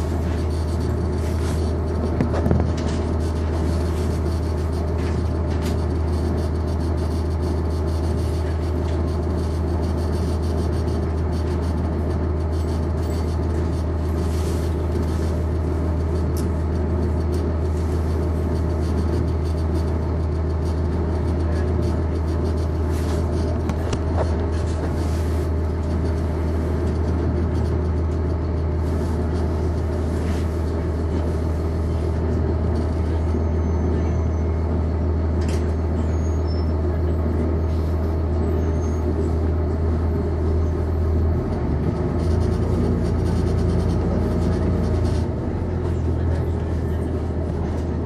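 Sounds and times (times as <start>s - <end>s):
bus diesel engine drone: 0.0s - 48.0s.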